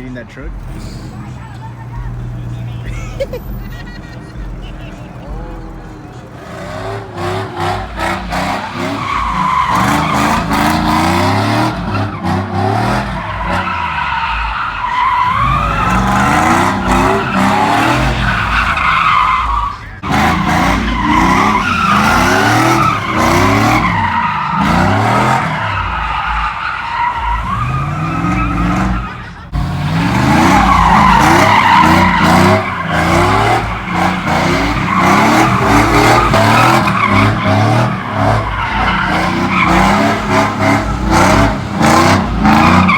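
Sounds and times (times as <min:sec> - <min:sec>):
tires squealing on pavement: 0:00.0 - 0:42.9
truck engine revving: 0:00.0 - 0:42.9.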